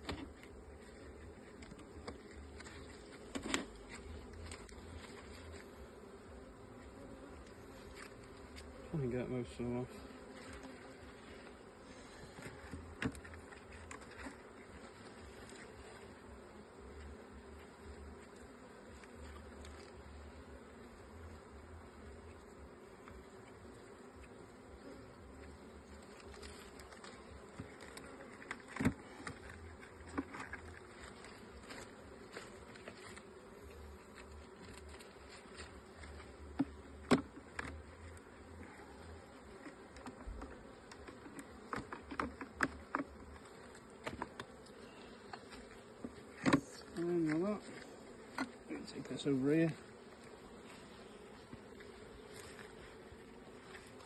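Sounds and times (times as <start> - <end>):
honeybees buzzing: 0.0 - 54.0.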